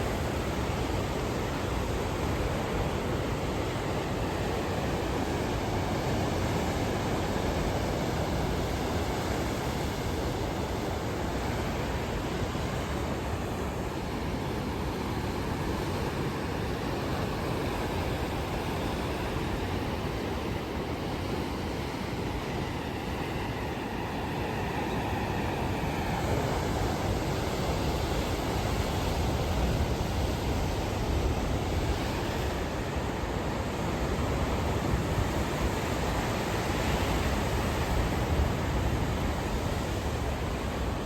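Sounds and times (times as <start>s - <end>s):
sea rushing: 0.0s - 41.0s
wind at the shore: 0.0s - 41.0s.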